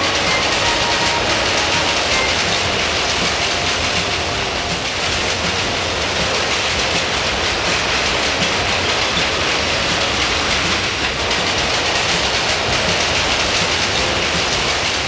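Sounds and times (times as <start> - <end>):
diesel locomotives passing at speed: 0.0 - 15.0.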